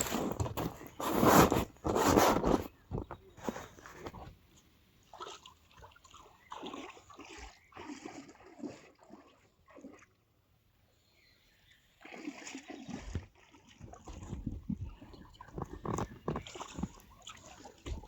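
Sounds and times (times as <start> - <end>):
shallow river water splashing: 0.0 - 18.0.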